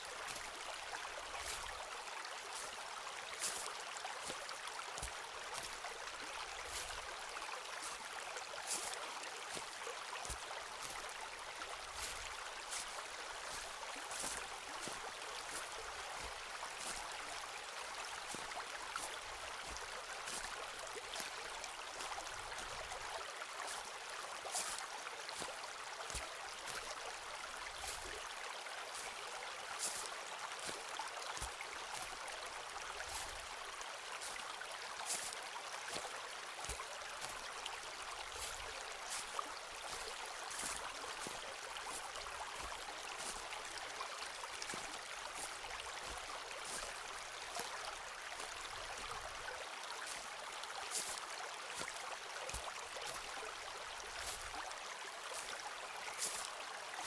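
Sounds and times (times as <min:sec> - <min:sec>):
footsteps crunching on forest floor: 0:00.1 - 0:54.6, 0:55.2 - 0:56.6.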